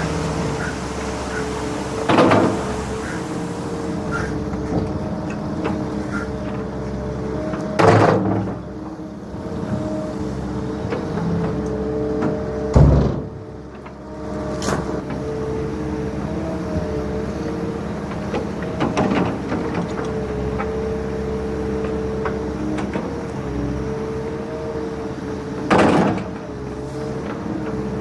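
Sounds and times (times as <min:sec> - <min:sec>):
diesel engines droning: 0:00.0 - 0:28.0.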